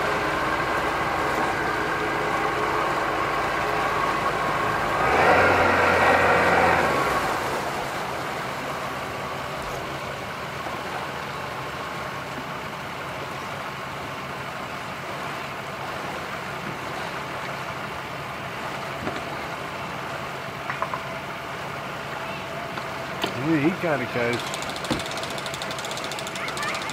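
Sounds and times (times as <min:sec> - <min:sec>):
outboard motor running: 0:00.0 - 0:26.9
propeller churning water: 0:00.0 - 0:26.9.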